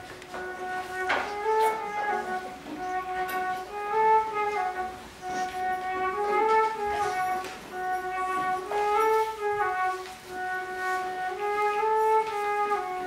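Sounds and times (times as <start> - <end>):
slow solo instrumental melody: 0.0 - 13.0.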